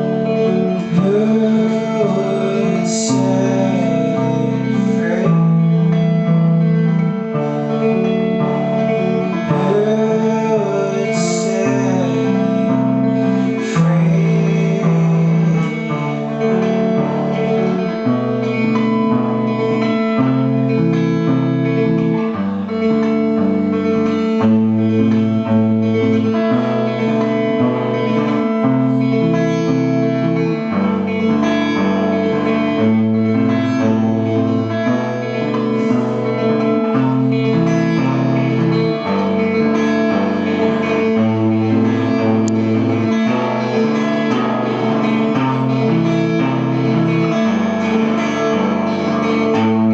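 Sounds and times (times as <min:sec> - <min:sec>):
low bass line: 0:00.0 - 0:49.9
plucked and strummed guitar: 0:00.0 - 0:49.9.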